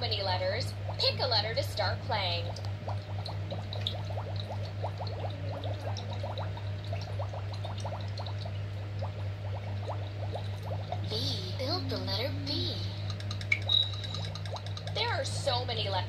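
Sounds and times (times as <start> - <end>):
electronic bubbling blips: 0.0 - 16.0
steady low hum: 0.0 - 16.0.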